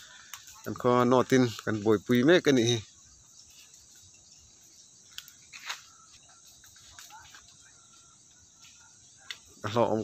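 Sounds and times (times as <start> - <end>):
fire crackles and pops: 0.0 - 10.0
wood fire hissing: 0.0 - 10.0.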